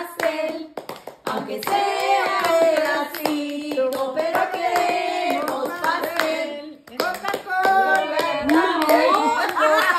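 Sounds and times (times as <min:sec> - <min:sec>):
people clapping along: 0:00.0 - 0:09.9
people singing a birthday song: 0:00.0 - 0:09.9.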